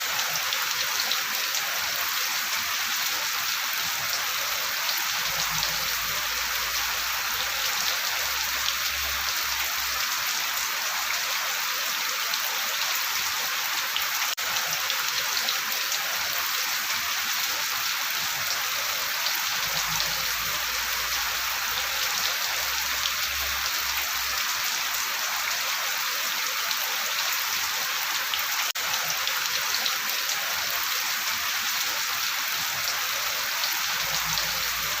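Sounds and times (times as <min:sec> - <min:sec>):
steady rain patter: 0:00.0 - 0:35.0.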